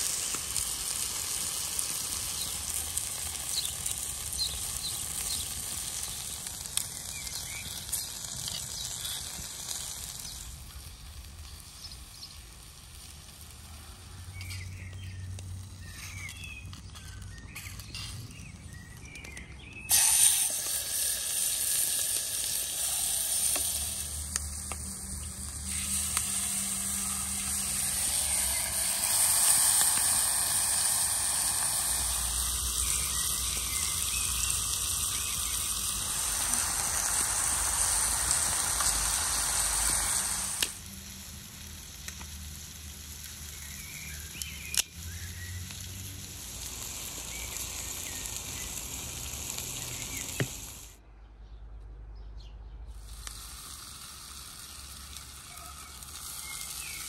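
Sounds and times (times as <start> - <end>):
chicken sizzling: 0.0 - 51.0, 53.0 - 57.0
wood fire crackling: 0.0 - 51.0, 53.0 - 57.0.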